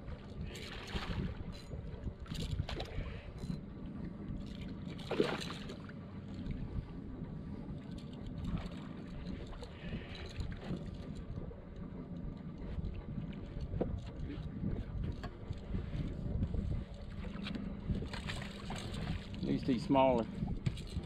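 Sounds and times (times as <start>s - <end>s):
steady low hum: 0.0s - 21.0s
wind rumbling on microphone: 0.0s - 21.0s.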